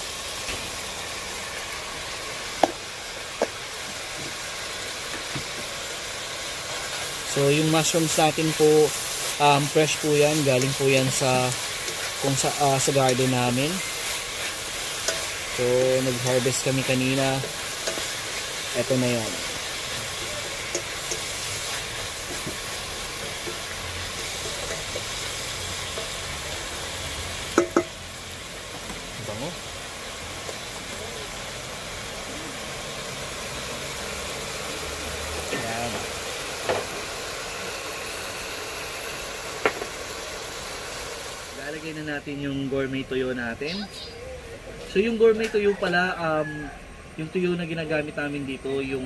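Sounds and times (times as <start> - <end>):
oil sizzling in a pan: 0.0 - 49.0.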